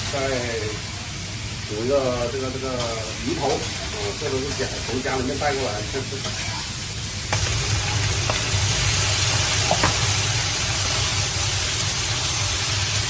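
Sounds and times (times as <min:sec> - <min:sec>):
food hissing on a stove: 0:00.0 - 0:13.0.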